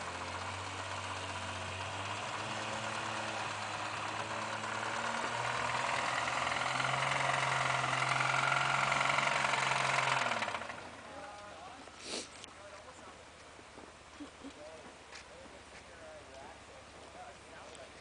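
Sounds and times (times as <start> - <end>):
engine running under load: 0.0 - 14.8.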